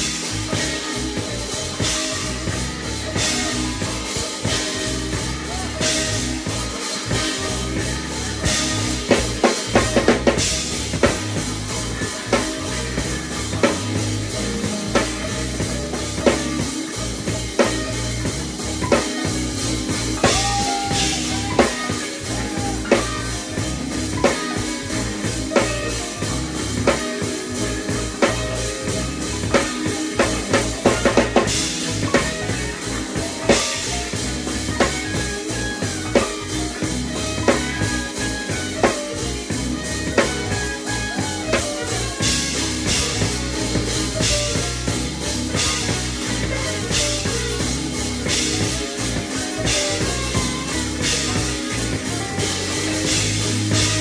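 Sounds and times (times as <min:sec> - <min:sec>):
drum kit hits: 0:00.0 - 0:54.0
electric bass line: 0:00.0 - 0:54.0
jazz fusion band playing: 0:00.0 - 0:54.0.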